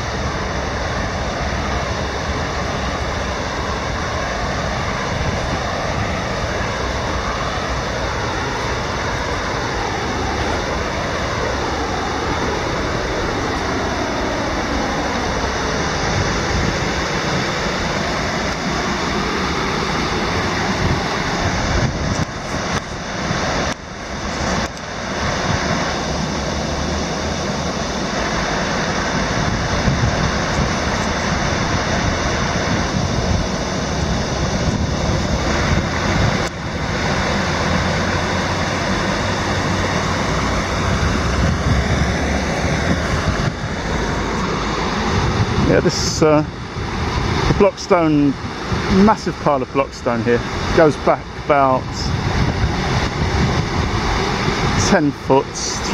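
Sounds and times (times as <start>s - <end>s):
river water rushing over weir: 0.0s - 55.9s
wind rumbling on microphone: 0.0s - 55.9s.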